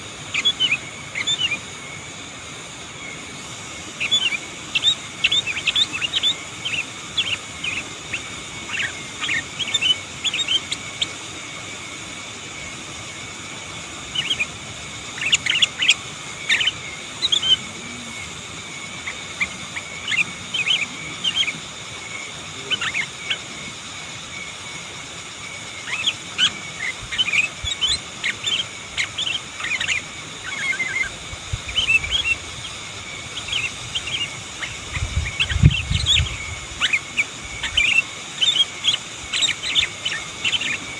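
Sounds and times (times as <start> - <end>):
bulbul chirping: 3.5 - 40.9.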